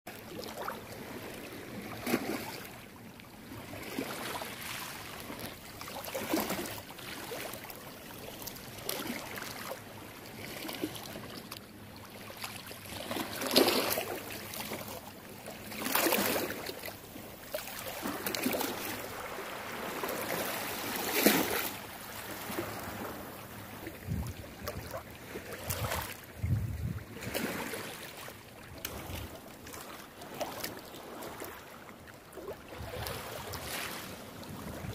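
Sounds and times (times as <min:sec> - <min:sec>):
water lapping over pebbles: 0:00.1 - 0:34.9.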